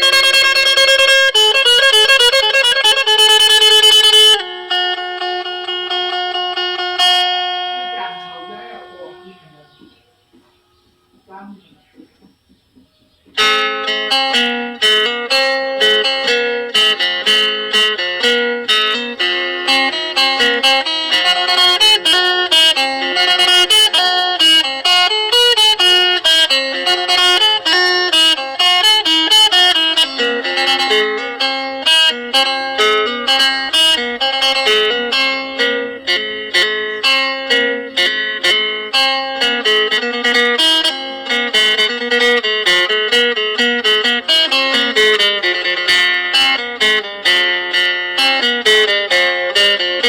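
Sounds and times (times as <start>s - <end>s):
plucked lute notes: 0.0s - 11.2s, 12.7s - 50.0s.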